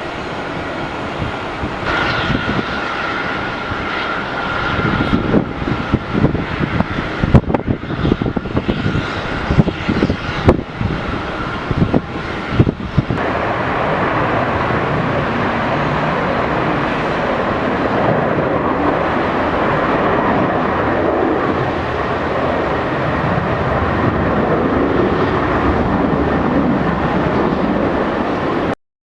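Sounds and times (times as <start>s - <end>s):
jet engine drone: 0.0s - 28.8s.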